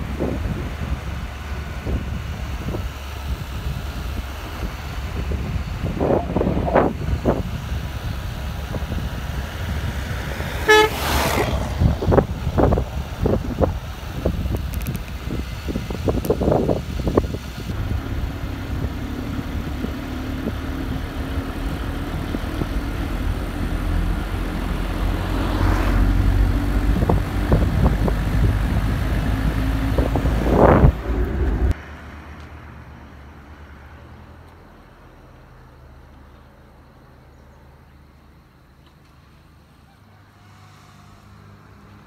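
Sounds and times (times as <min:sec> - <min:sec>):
vehicle engine and road rumble: 0:00.0 - 0:42.0.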